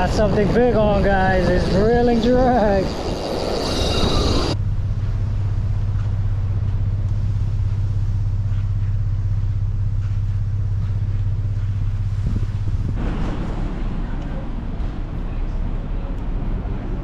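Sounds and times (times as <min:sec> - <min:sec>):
truck driving rumble: 0:00.0 - 0:17.0.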